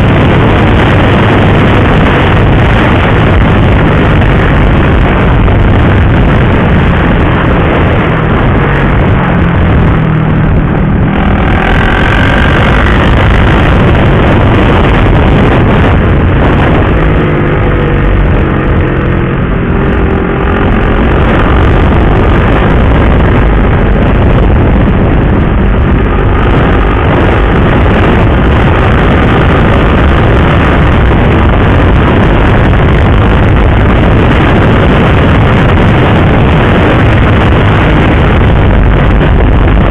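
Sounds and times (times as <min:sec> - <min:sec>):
heavy wind noise: 0:00.0 - 0:39.9
motorcycle engine: 0:00.0 - 0:39.9.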